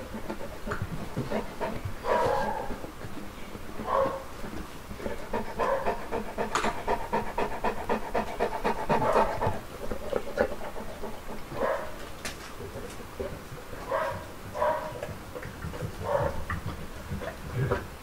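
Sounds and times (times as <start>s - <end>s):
dog panting: 0.1s - 17.6s.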